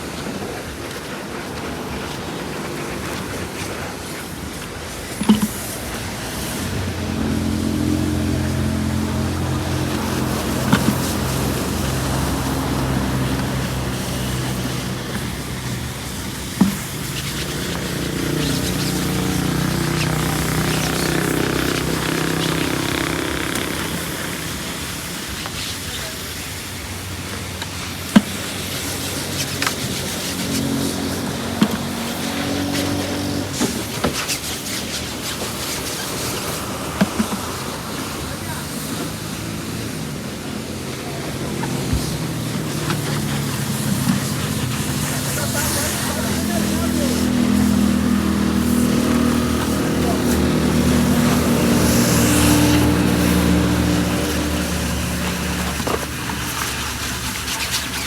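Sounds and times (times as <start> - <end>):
engine humming steadily: 0.0 - 58.0
noisy background: 0.0 - 58.0
motor running: 0.2 - 26.2, 27.3 - 58.0.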